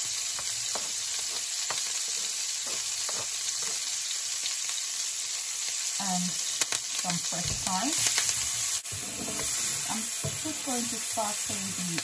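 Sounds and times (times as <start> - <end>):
butter sizzling in a hot pan: 0.0 - 12.0.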